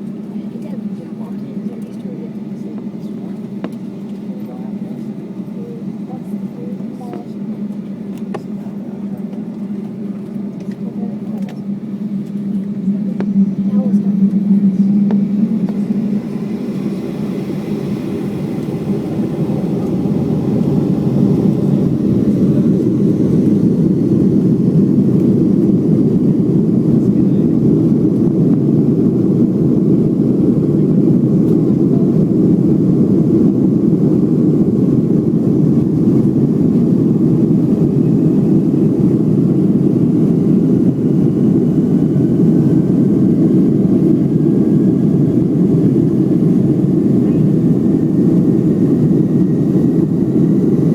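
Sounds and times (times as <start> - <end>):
jet engine rush in cabin: 0.0 - 50.9.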